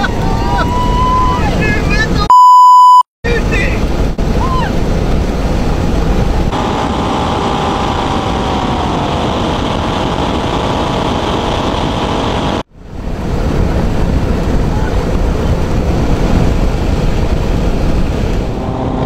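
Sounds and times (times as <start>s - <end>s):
wind rushing on microphone: 3.3s - 19.0s
aircraft engines and propeller: 3.4s - 19.0s.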